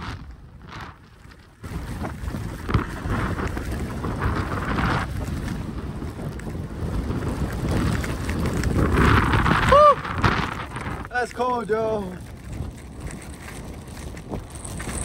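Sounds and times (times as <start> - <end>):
skis sliding over snow: 0.0 - 15.0
wind rushing over microphone: 0.0 - 15.0.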